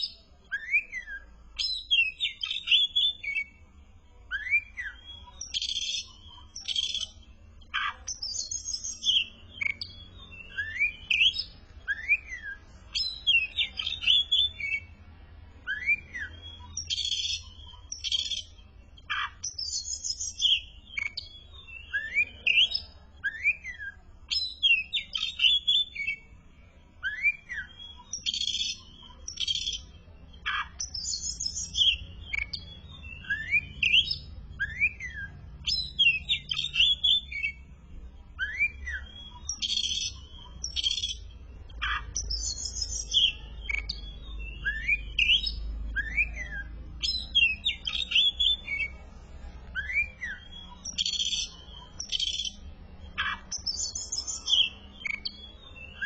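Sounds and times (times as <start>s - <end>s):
songbird singing chirps and whistles: 0.0s - 56.0s.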